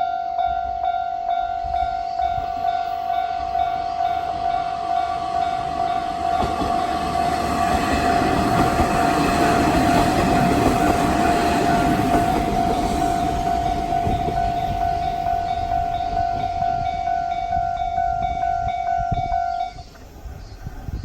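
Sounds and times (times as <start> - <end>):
level crossing alarms ringing: 0.0 - 19.8
passing train rumble: 0.0 - 21.0.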